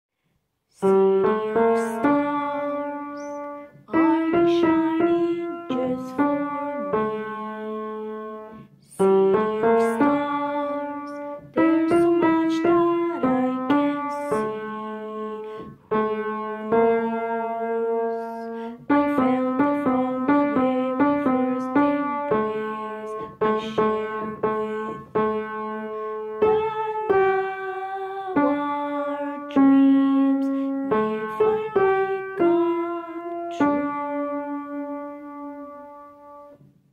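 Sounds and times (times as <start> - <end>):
upright piano melody: 0.8 - 36.9.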